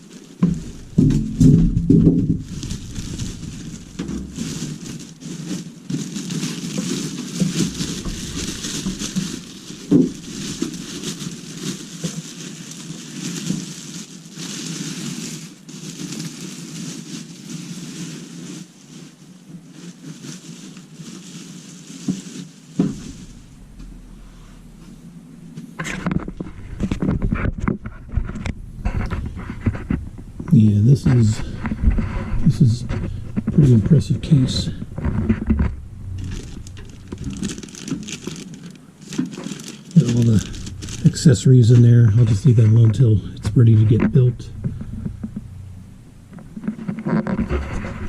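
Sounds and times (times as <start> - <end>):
cardboard packaging rustling: 0.0 - 48.0.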